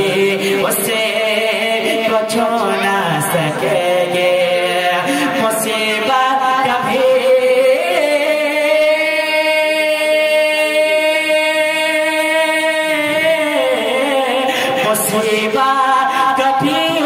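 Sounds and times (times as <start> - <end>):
man singing through a microphone: 0.0 - 17.0.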